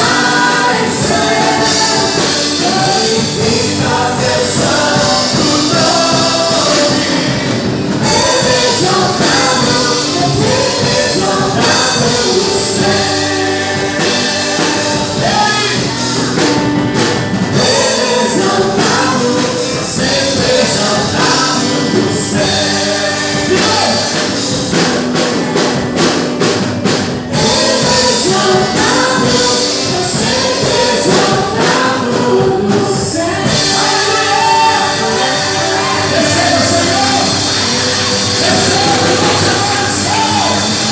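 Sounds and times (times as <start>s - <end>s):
gospel singers with full band: 0.0s - 40.9s.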